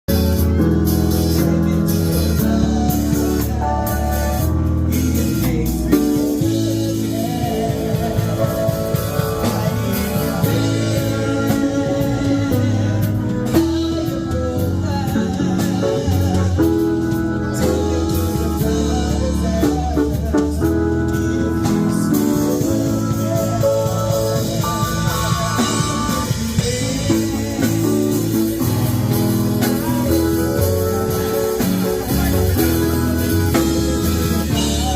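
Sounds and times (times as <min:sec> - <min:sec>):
band with guitar bass and drums: 0:00.0 - 0:34.9
person singing: 0:00.1 - 0:34.9.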